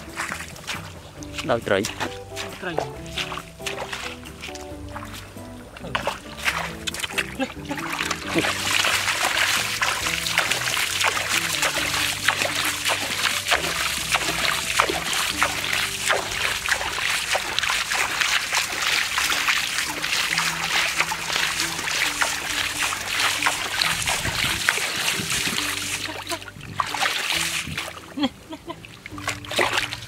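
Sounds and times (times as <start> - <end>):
background music low notes: 0.0 - 30.0
hands splashing in muddy water: 0.0 - 30.0.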